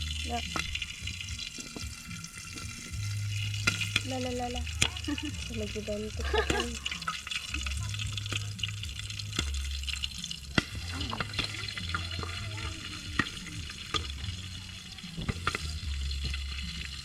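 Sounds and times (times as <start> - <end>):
popcorn popping: 0.0 - 17.0
popcorn sizzling crackle: 0.0 - 17.0.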